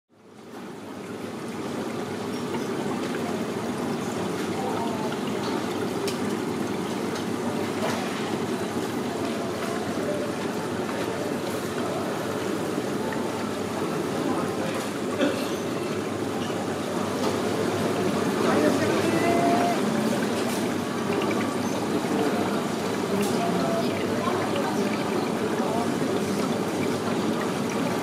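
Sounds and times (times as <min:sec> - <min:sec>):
water trickling: 0:00.2 - 0:28.0.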